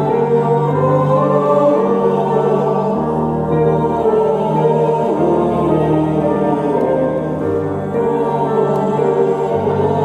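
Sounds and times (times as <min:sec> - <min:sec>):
mixed choir singing chords: 0:00.0 - 0:10.0.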